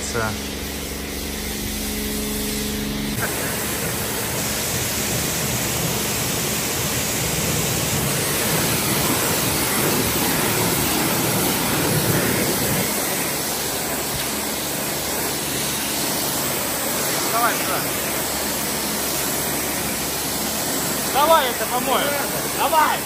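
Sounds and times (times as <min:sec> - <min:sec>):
pressure washer spraying water: 0:00.0 - 0:23.0.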